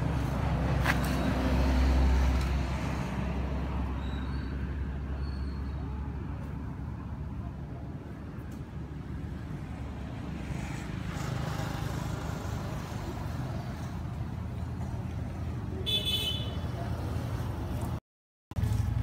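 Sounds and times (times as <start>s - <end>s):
vehicle engine rumble passing: 0.0s - 15.8s, 18.6s - 19.0s.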